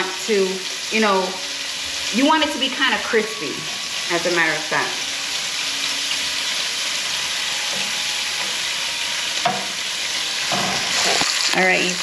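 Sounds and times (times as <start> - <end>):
bacon sizzling in a pan: 0.0 - 12.0.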